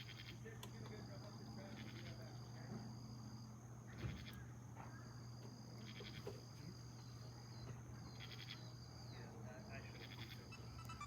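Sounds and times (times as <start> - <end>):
insects trilling: 0.0 - 11.0
rapid insect chirps: 0.0 - 11.0.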